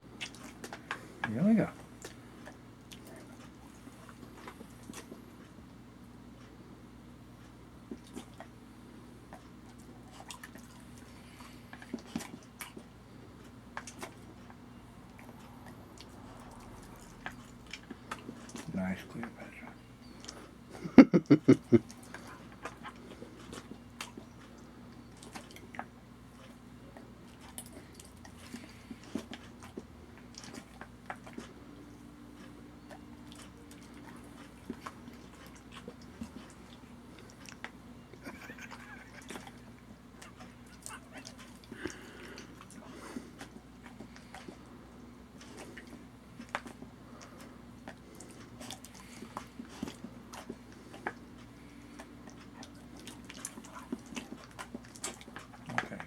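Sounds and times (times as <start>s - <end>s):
faint hum: 0.0s - 56.0s
dog eating with wet mouth smacks: 0.1s - 6.6s, 7.2s - 56.0s.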